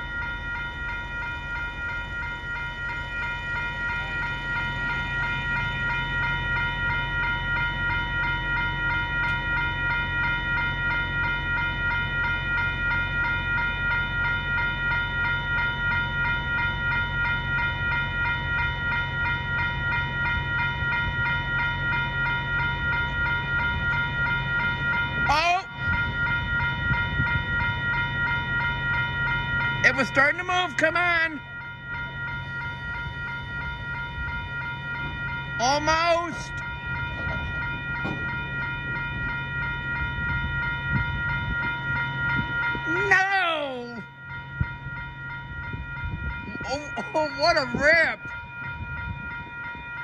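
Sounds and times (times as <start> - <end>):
railroad crossing bells ringing: 0.0 - 50.0.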